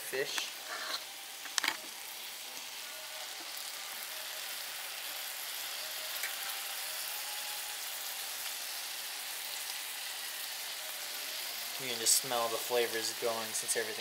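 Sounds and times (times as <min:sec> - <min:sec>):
fish sizzling in a pan: 0:00.0 - 0:14.0.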